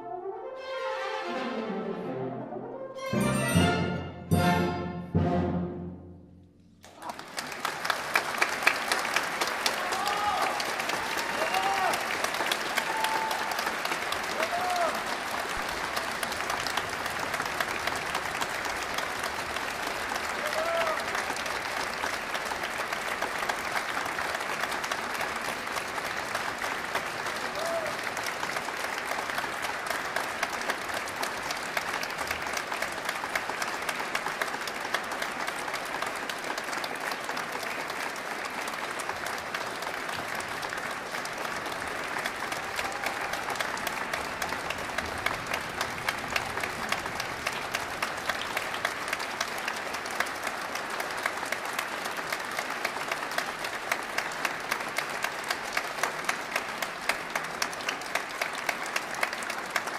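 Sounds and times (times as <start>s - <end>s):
audience applauding: 6.8s - 59.9s.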